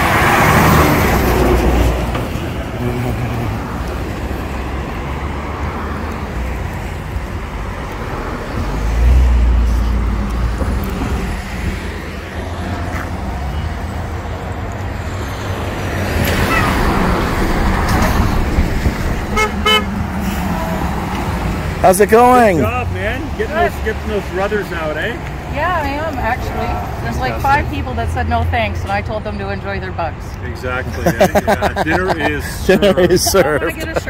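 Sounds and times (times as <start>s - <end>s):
road traffic passing: 0.0s - 34.0s
vehicle passing rumble: 0.0s - 34.0s.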